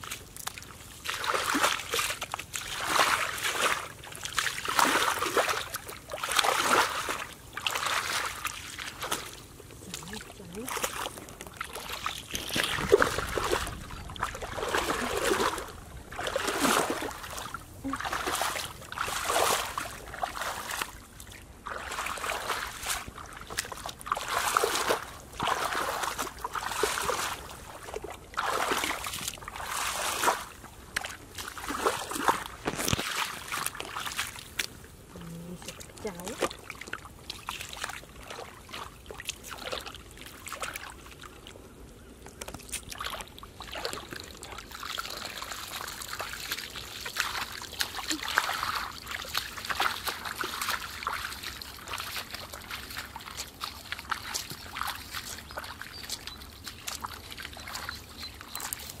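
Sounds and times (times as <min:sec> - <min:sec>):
footsteps wading through muddy water: 0:00.0 - 0:59.0.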